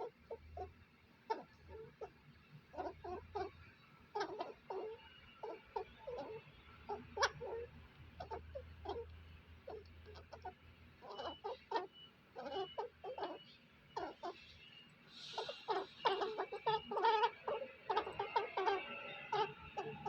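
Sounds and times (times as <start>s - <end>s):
squirrel chirping: 0.0s - 20.0s.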